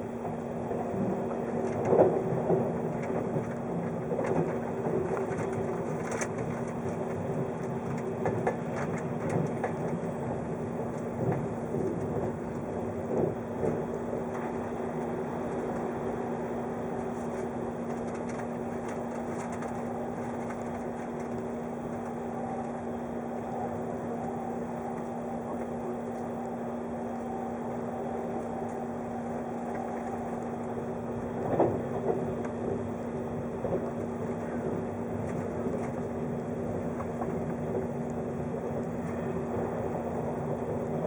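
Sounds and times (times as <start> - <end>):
electric train running: 0.0 - 41.0
steady hum: 0.0 - 41.0.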